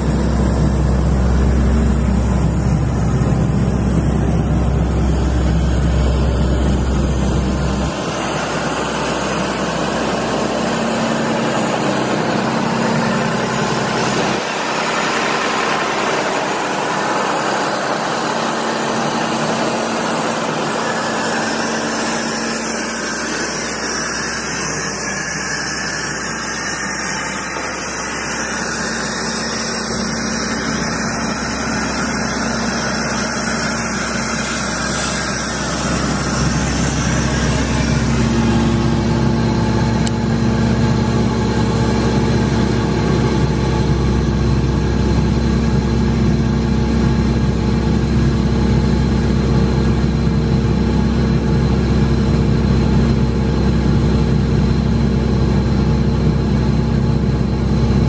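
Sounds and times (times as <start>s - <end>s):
diesel air compressor running: 0.0s - 58.0s.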